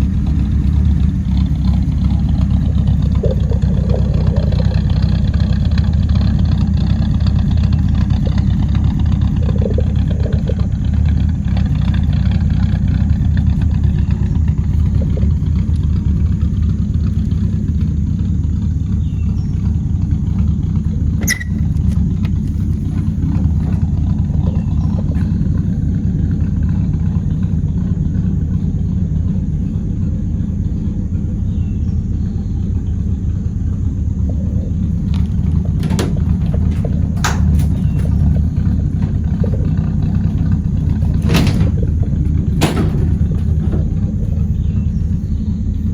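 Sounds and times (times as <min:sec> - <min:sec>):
pickup engine and road rumble: 0:00.0 - 0:45.9.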